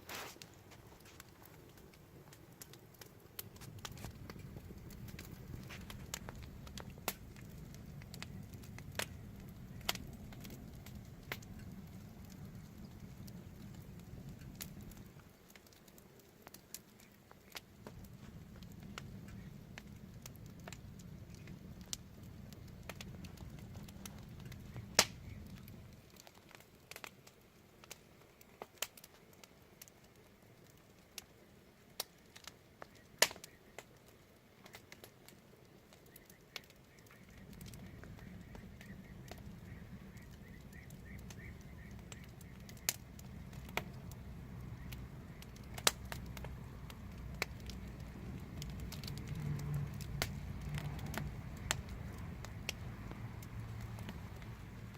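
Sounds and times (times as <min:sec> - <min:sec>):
fire pops and snaps: 0:00.0 - 0:54.9
wood fire crackling: 0:00.0 - 0:54.9.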